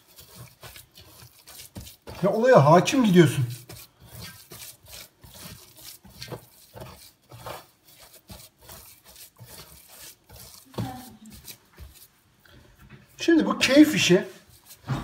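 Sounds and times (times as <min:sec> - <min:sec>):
hands kneading wet paste: 0:00.0 - 0:15.0
squishing and scraping on metal tray: 0:00.0 - 0:15.0.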